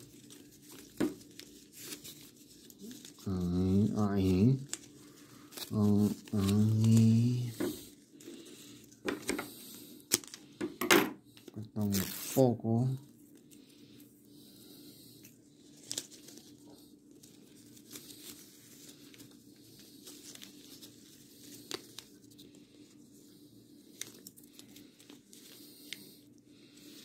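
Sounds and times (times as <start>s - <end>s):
plastic ribbon rustling: 0.0s - 10.5s, 14.7s - 27.0s.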